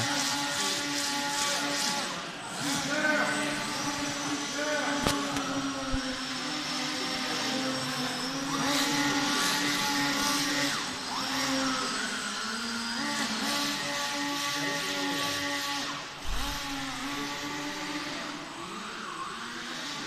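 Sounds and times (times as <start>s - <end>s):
small electric motor whine: 0.0s - 20.0s.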